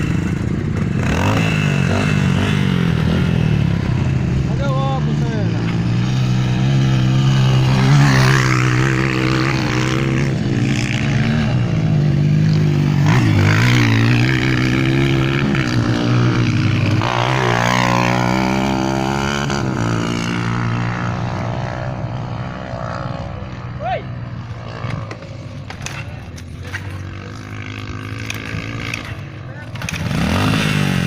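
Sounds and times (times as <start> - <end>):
motocross engines revving: 0.0 - 31.0.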